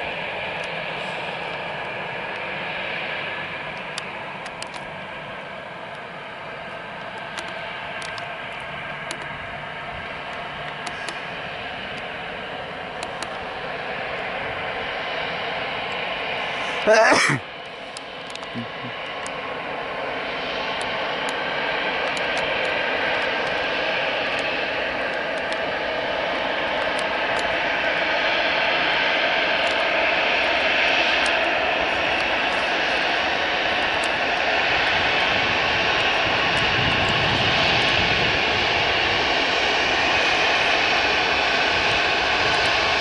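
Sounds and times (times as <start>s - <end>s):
airliner engine rushing: 0.0s - 43.0s.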